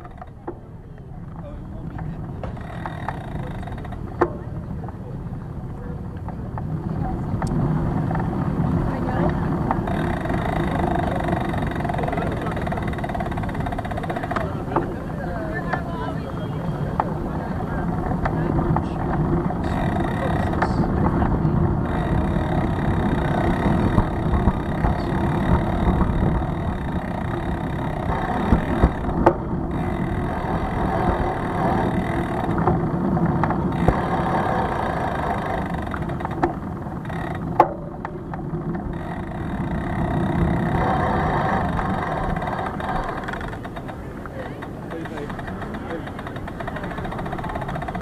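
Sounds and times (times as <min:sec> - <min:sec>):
bicycle rumbling over pavement: 0:00.0 - 0:48.0.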